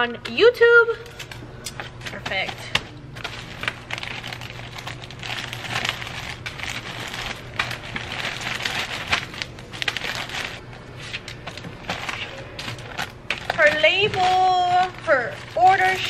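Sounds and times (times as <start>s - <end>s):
plastic bags rustling and crinkling: 1.1s - 16.0s.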